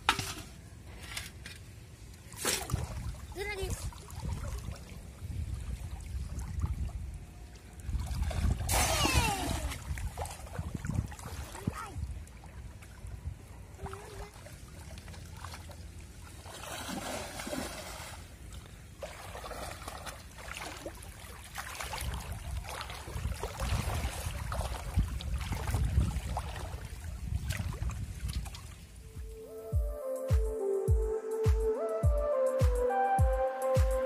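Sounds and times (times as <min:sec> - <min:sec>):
water splashing and trickling: 0:00.0 - 0:29.4.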